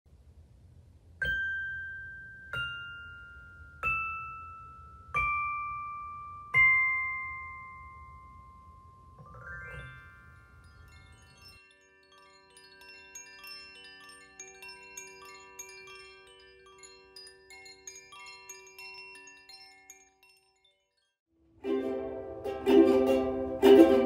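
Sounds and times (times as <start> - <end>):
bell-like chime music: 1.2 - 24.0.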